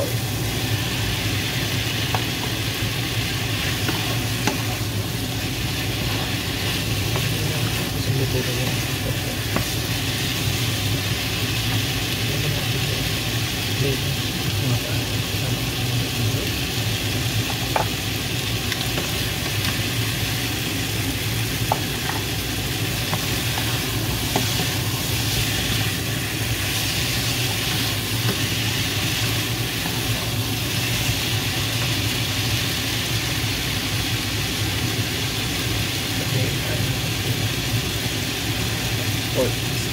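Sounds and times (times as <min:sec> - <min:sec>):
steady low hum: 0:00.0 - 0:34.2
food sizzling in a frying pan: 0:00.0 - 0:39.9.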